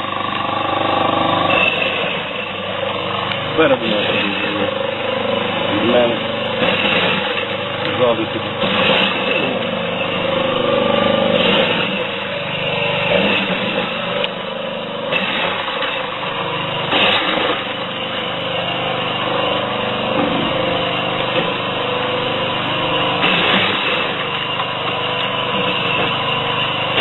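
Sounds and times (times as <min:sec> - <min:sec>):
corn sheller mechanical drone: 0:00.0 - 0:27.0.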